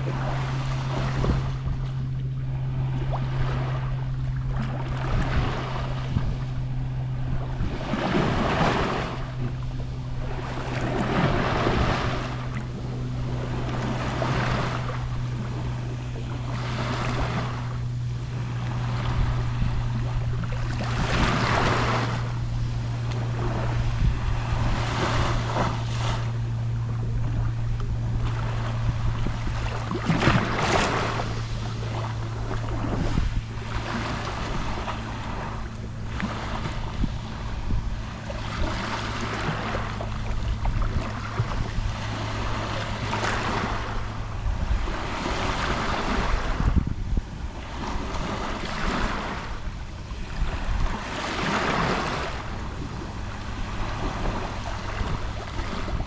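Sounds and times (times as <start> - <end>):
steady low hum: 0.0 - 56.0
waves lapping on shore: 0.0 - 56.0.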